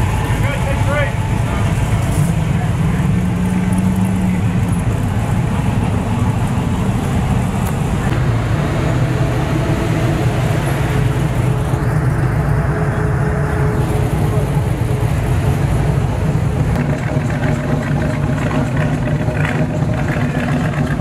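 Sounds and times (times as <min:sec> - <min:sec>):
pickup truck engine passing: 0:00.0 - 0:21.0.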